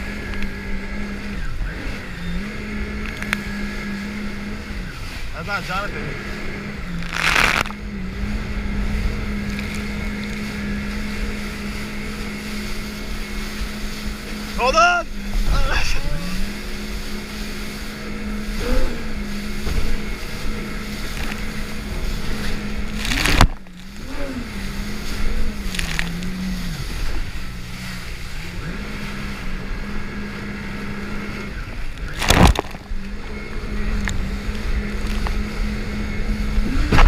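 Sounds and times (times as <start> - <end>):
jet ski engine running: 0.0 - 37.0
water wash and spray: 3.0 - 37.0
sudden loud noise surges: 6.2 - 37.0.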